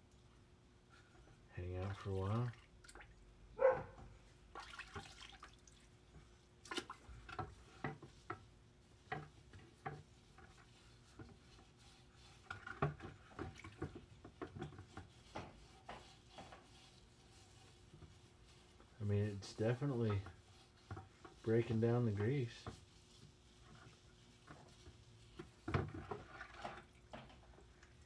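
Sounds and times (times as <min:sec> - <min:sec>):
liquid sloshing in plastic bucket: 0:01.5 - 0:28.0.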